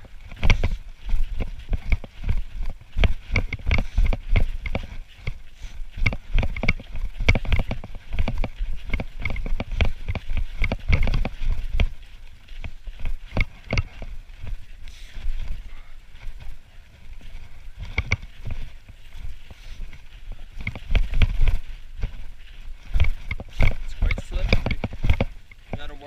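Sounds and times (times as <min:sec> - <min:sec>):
footsteps crunching on snow: 0:00.0 - 0:26.0
low wind rumble on microphone: 0:00.0 - 0:26.0.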